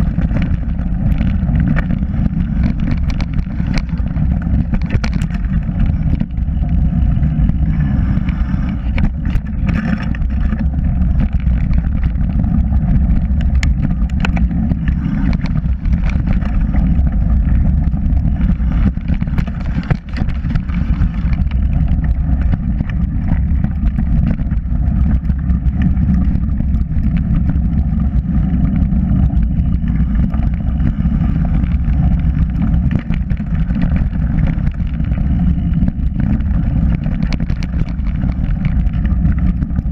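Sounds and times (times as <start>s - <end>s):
bike knocks and rattles: 0.0s - 39.9s
wind rumble on microphone: 0.0s - 39.9s.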